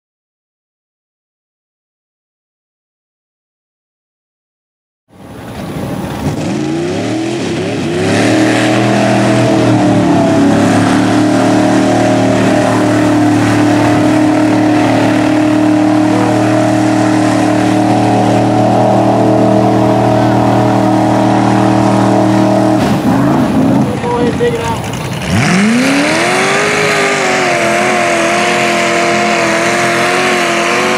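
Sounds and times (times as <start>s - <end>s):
truck engine revving: 5.5s - 30.9s.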